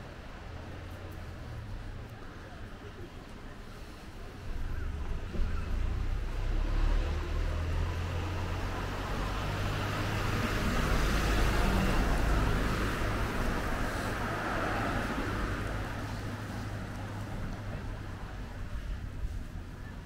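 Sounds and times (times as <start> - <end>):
low traffic rumble: 0.0 - 20.0.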